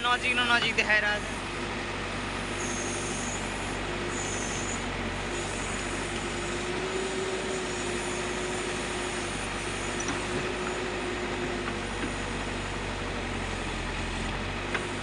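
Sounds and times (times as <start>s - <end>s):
diesel engine running: 0.0s - 15.0s
steady whine: 0.0s - 15.0s.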